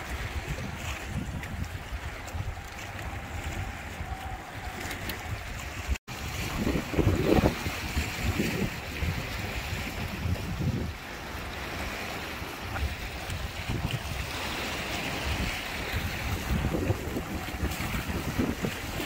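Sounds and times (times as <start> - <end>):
small waves washing against rocks: 0.0 - 19.0
wind buffeting microphone: 0.0 - 19.0.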